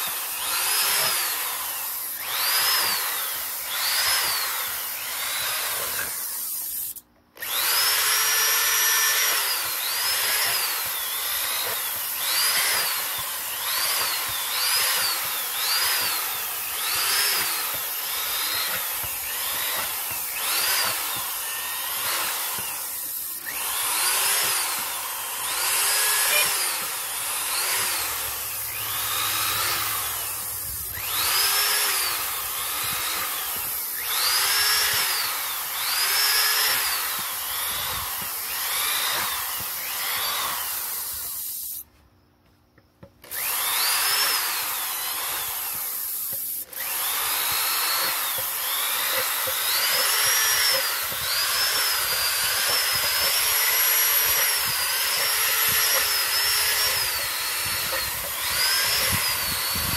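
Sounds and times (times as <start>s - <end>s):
electric drill boring plastic: 0.0s - 41.9s, 43.0s - 59.9s.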